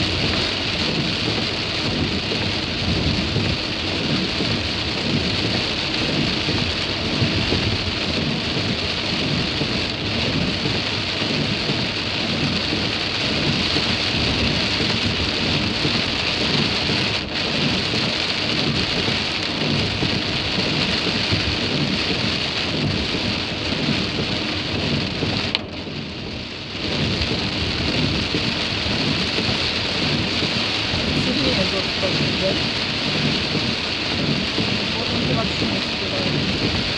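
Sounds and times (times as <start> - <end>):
heavy rain on a car: 0.0 - 36.9.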